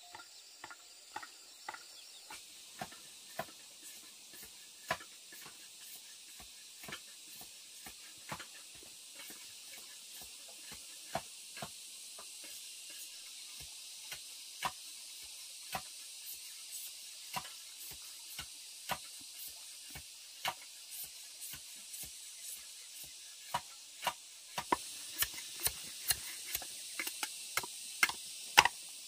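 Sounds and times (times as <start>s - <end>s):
food sizzling in a pan: 2.4s - 29.0s.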